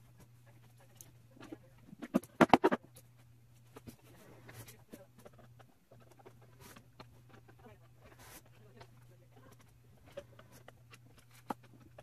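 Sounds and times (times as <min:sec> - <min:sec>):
faint scrapes and rustles: 0:00.0 - 0:12.0.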